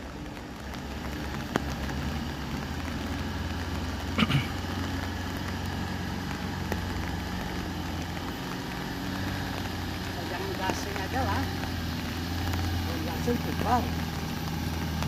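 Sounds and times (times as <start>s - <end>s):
diesel truck engine low revs: 0.0s - 15.0s.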